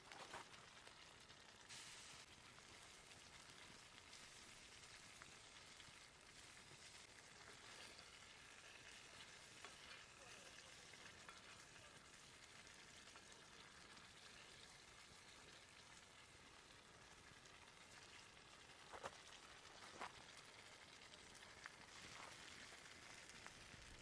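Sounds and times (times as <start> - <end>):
food sizzling over campfire: 0.0 - 24.0.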